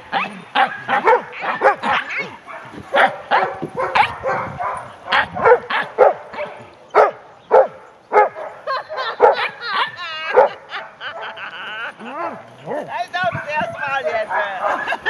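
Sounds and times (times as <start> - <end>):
dog warbling cry: 0.0 - 12.9
dogs barking: 0.0 - 15.0.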